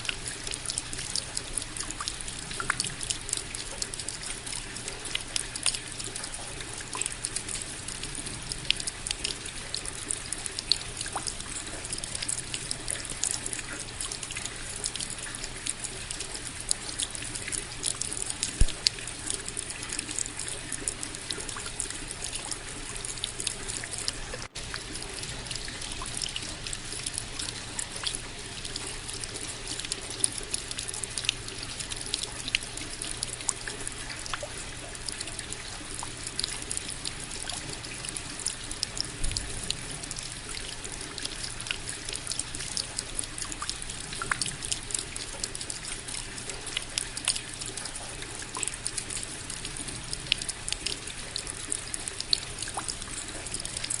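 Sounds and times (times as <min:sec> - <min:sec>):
rain drops ticking: 0:00.0 - 0:54.0
wash of falling rain: 0:00.0 - 0:54.0.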